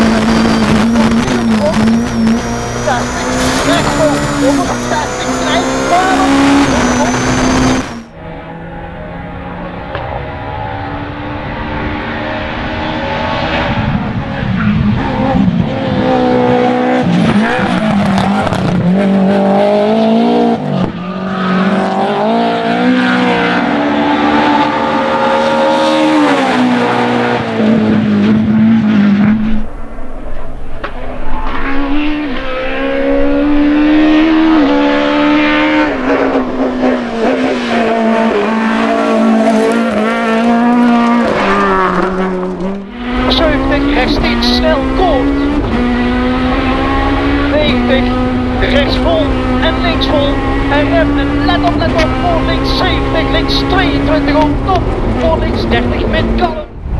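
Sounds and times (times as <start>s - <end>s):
rally car engines revving hard: 0.0s - 56.9s.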